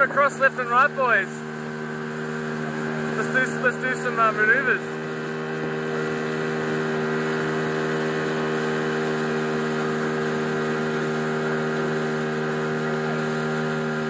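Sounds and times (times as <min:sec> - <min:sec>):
outboard motor drone: 0:00.0 - 0:14.0.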